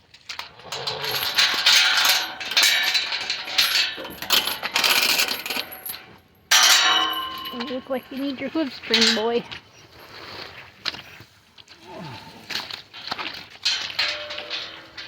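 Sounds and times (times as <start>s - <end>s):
metallic clattering and jingling: 0.3s - 10.4s, 12.6s - 15.0s.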